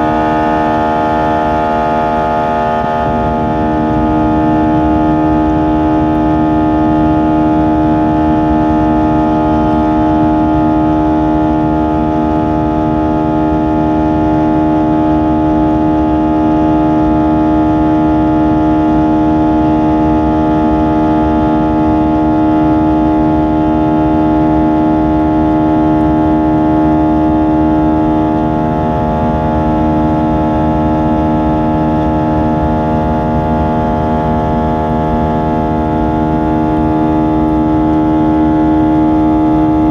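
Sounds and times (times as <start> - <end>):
airplane engines droning: 0.0 - 39.9
deep rumble: 0.0 - 39.9.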